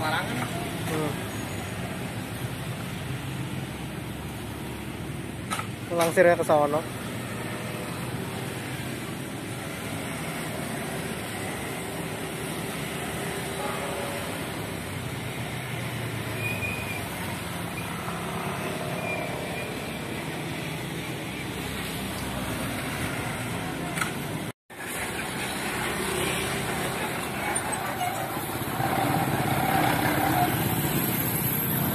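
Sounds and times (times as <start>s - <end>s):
road traffic noise: 0.0s - 31.9s.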